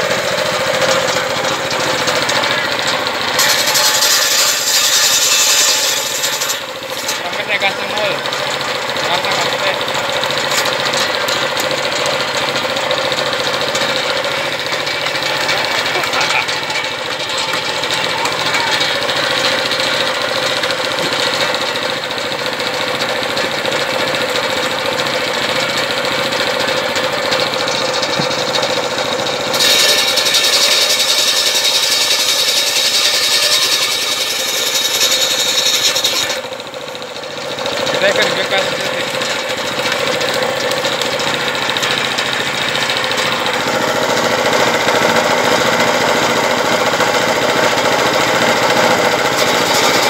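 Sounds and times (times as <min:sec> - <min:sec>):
circular saw running: 0:00.0 - 0:50.0
saw blade ripping wooden plank: 0:00.0 - 0:50.0.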